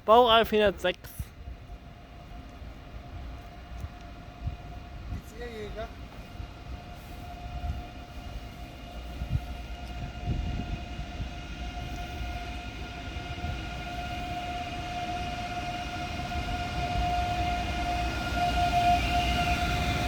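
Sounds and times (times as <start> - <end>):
electric train whining: 0.0 - 20.0.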